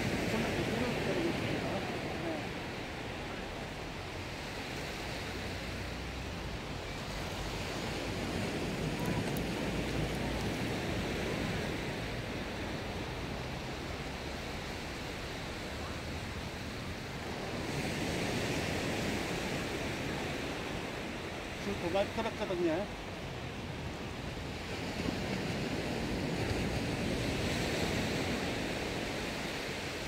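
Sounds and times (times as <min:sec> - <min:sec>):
surf washing on sand: 0:00.0 - 0:30.0
wind rumbling on microphone: 0:00.0 - 0:30.0.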